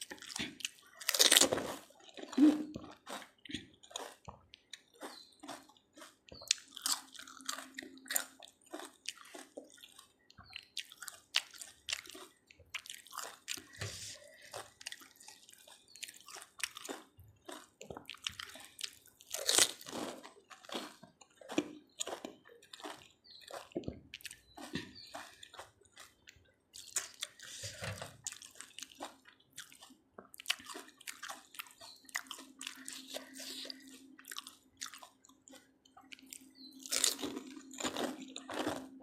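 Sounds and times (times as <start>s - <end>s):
crunchy food chewing: 0.0s - 39.0s.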